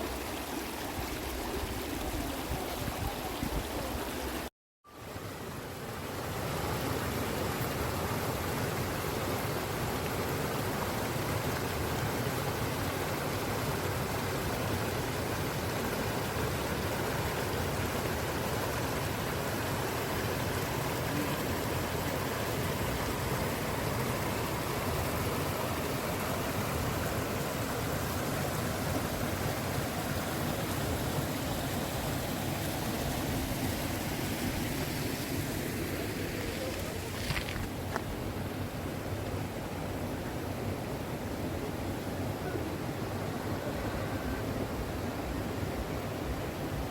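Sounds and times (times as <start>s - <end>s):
stream water rushing: 0.0s - 46.9s.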